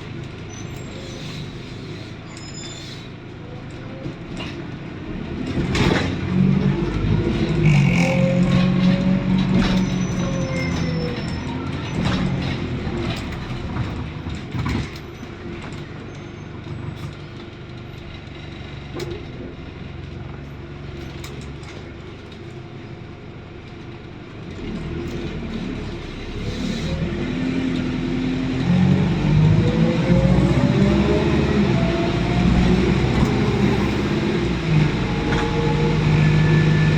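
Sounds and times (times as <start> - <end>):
bus diesel engine: 0.0 - 36.9.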